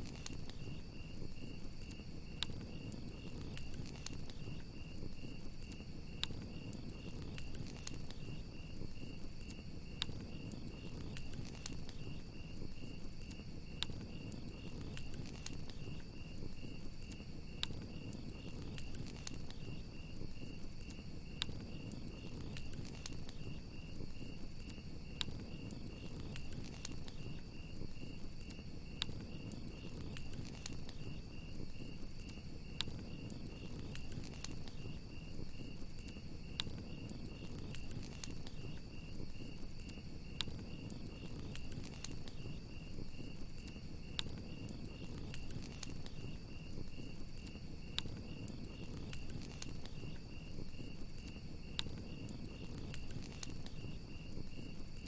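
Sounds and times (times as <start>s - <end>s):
campfire crackling and popping: 0.0s - 55.0s
crickets chirping: 0.0s - 55.0s.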